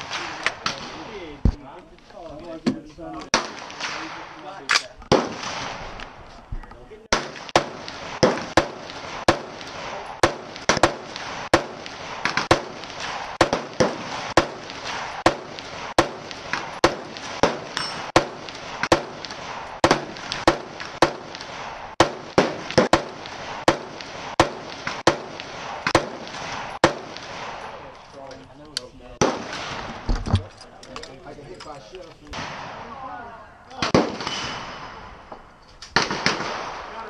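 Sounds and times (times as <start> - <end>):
gunshots: 0.0 - 1.4, 3.3 - 6.2, 7.1 - 27.9, 29.2 - 30.1, 32.3 - 35.3, 35.9 - 37.0.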